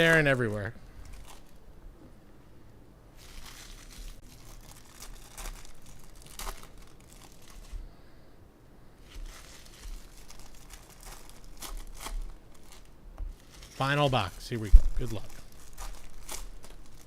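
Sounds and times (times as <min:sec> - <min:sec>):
plastic packaging crinkling and tearing: 0:00.0 - 0:01.6, 0:03.2 - 0:07.8, 0:09.0 - 0:17.0.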